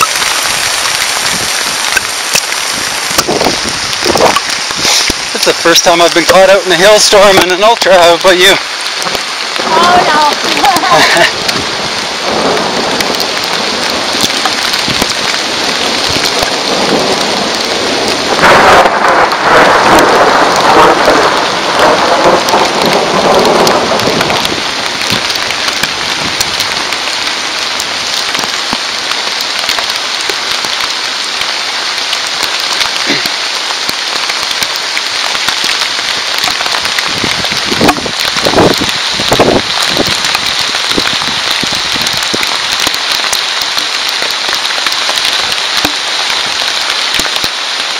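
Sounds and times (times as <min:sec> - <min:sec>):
hail and rain pelting down: 0:00.0 - 0:47.9.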